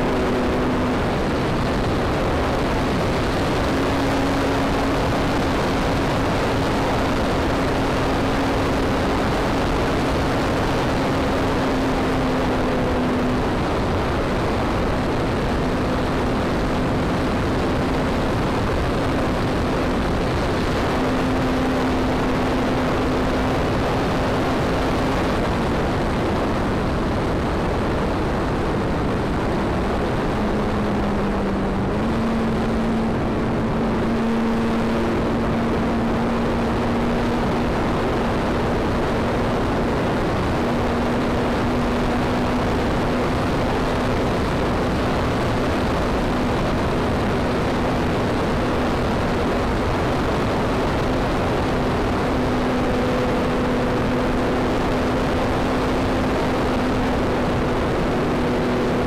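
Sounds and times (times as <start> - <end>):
model airplane engine running: 0.0 - 59.0
wind rushing over microphone: 0.0 - 59.0.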